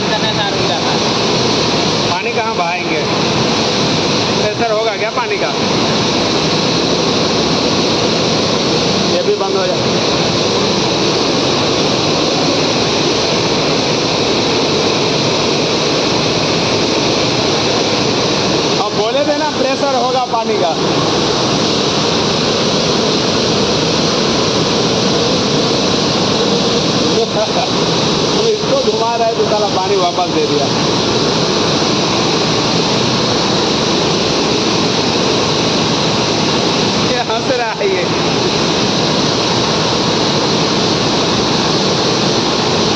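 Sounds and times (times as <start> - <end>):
water spraying from a pipe: 0.0 - 42.9.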